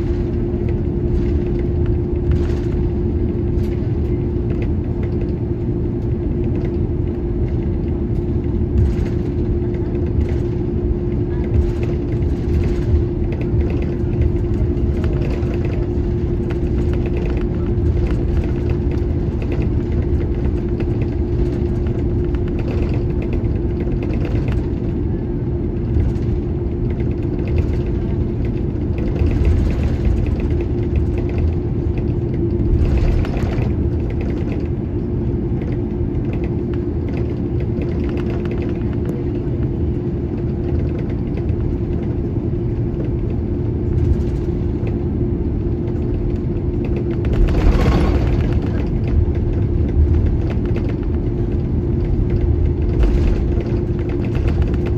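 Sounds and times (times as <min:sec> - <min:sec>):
jet engine hum: 0:00.0 - 0:54.9
wheels rumbling on taxiway: 0:00.0 - 0:54.9.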